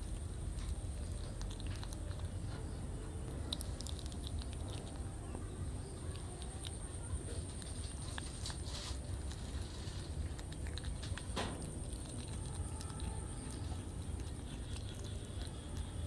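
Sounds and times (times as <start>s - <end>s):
kitten chewing and crunching: 0.0s - 16.0s
steady low hum: 0.0s - 16.0s.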